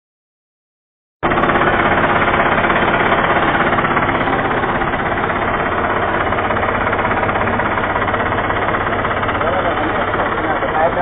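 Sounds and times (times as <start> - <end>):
tractor engine running: 1.2 - 11.0.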